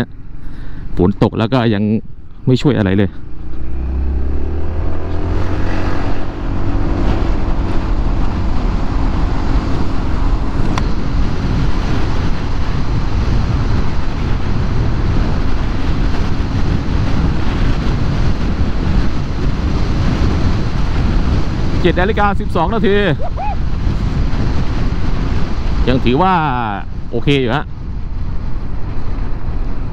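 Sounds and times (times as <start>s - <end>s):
wind and road noise: 0.0s - 29.9s.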